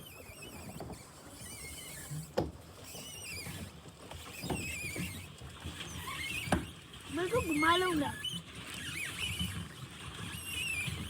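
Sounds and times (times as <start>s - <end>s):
oars splashing in lake water: 0.0s - 11.0s.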